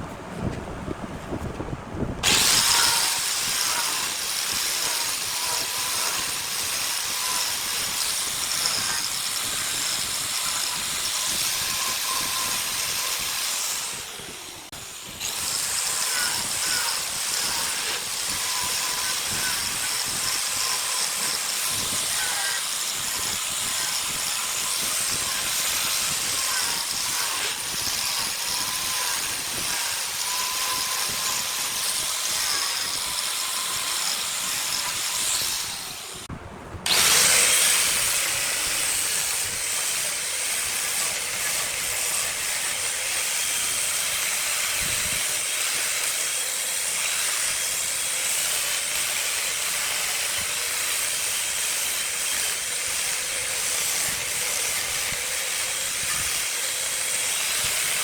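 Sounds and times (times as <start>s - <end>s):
wood lathe spinning with tool: 2.2s - 58.0s.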